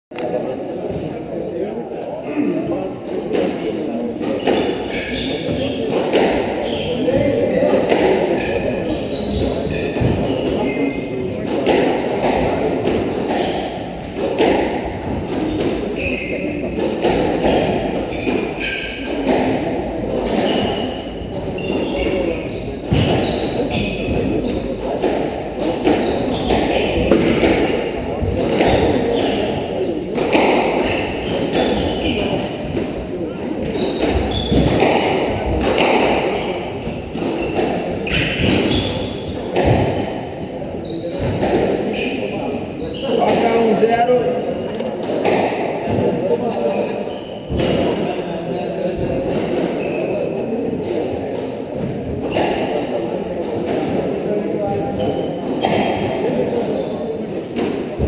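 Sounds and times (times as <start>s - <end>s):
squash ball hitting rackets and walls: 3.2s - 44.1s, 44.9s - 46.2s, 46.8s - 48.2s, 48.8s - 58.0s
shoes squeaking on wooden floor: 4.1s - 58.0s.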